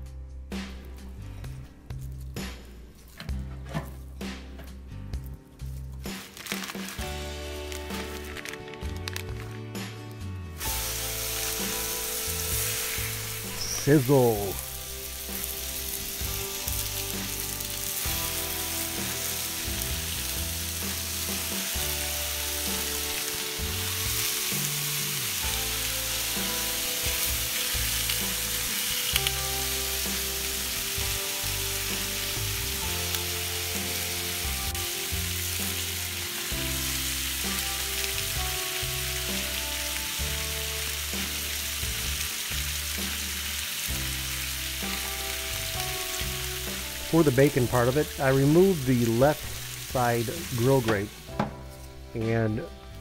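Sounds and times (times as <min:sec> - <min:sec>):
background music: 0:00.0 - 0:53.0
bacon sizzling on griddle: 0:06.0 - 0:09.6, 0:10.6 - 0:51.9.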